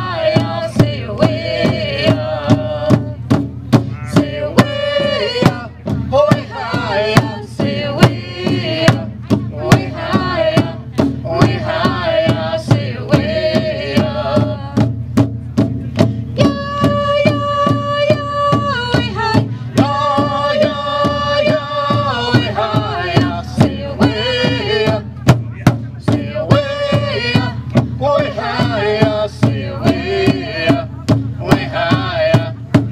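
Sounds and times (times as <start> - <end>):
men and woman singing together: 0.0 - 3.3, 3.9 - 14.9, 16.4 - 25.4, 26.0 - 32.9
drum struck in steady beat: 0.0 - 32.9.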